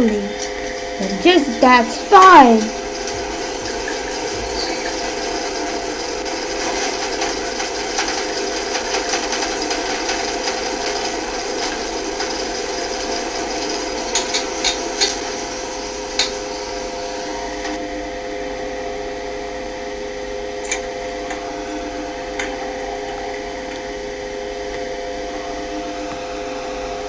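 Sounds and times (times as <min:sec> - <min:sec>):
lift hum and rattle: 0:00.0 - 0:27.0.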